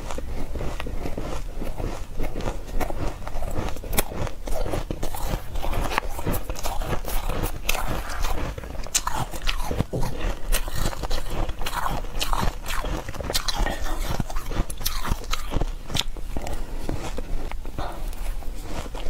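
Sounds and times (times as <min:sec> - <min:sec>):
ice being chewed crunching: 0:00.0 - 0:19.0.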